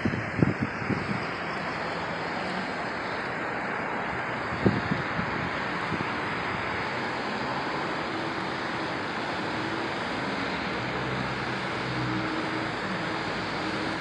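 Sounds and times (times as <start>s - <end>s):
low engine hum: 0.0s - 14.0s
tyres hissing on wet road: 0.0s - 14.0s.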